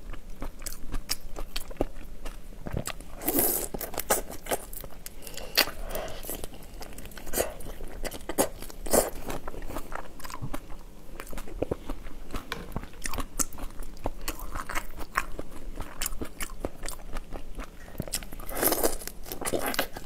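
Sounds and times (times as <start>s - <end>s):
wet crunching and chewing: 0.0s - 20.0s.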